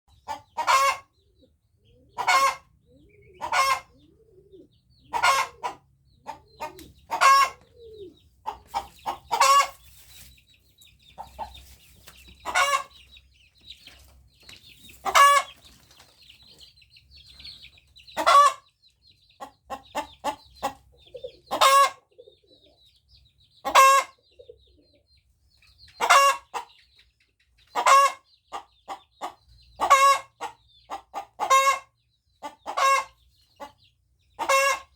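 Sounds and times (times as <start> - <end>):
hen clucking softly: 0.1 - 34.9.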